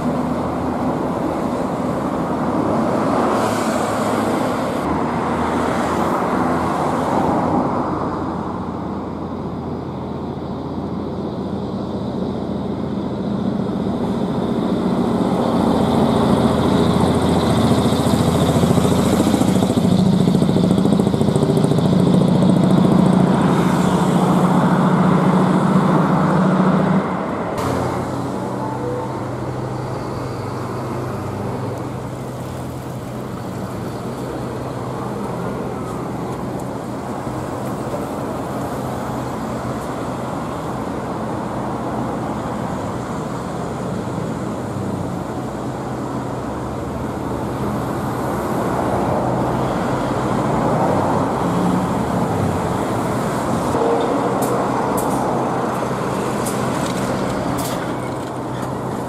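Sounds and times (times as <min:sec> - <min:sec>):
street traffic noise: 0:00.0 - 0:59.0
diesel truck engine running: 0:08.8 - 0:59.0.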